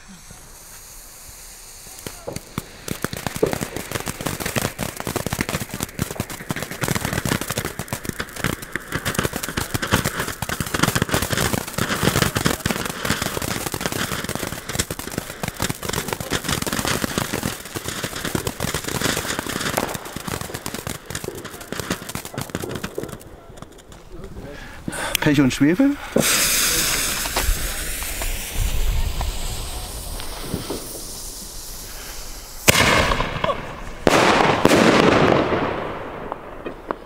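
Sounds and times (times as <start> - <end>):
firework fountain crackling: 0.0 - 37.0.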